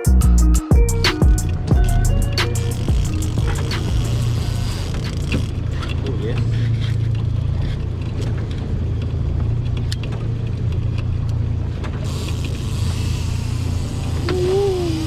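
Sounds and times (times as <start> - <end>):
outboard motor droning: 0.9 - 15.0.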